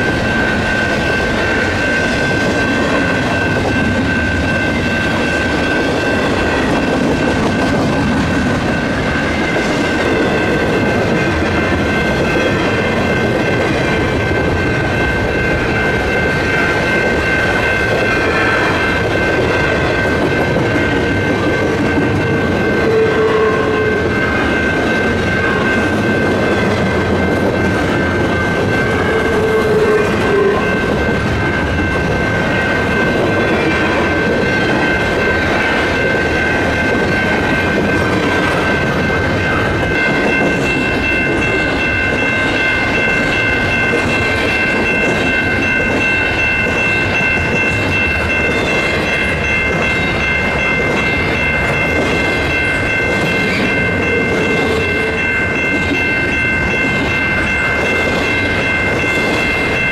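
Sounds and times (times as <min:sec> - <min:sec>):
high ringing tones: 0:00.0 - 0:59.9
train wheels rumbling on rail: 0:00.0 - 0:59.9.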